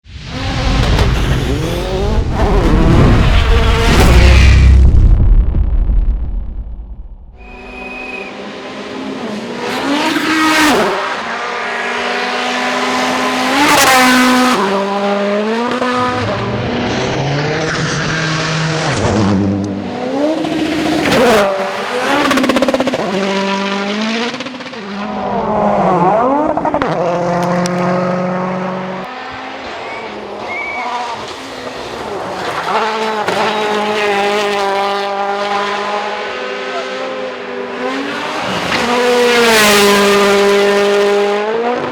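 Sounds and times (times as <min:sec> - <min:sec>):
rally cars passing at full speed: 0:00.0 - 0:05.3, 0:07.3 - 0:41.9.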